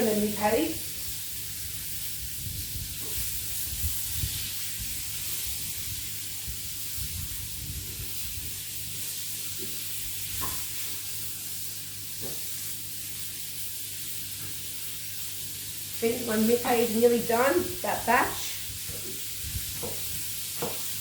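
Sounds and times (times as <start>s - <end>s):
meat patties sizzling in pan: 0.0s - 21.0s.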